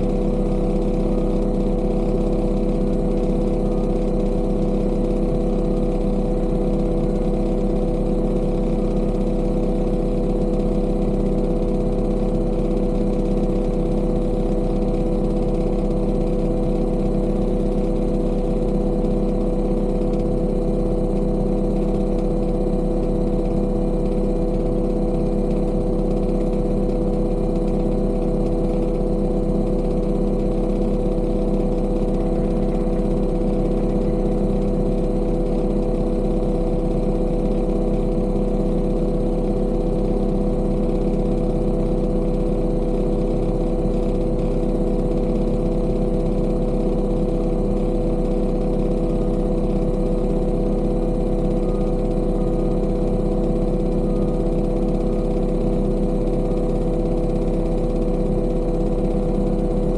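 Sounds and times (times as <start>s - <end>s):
machine engine droning steadily: 0.0s - 59.9s.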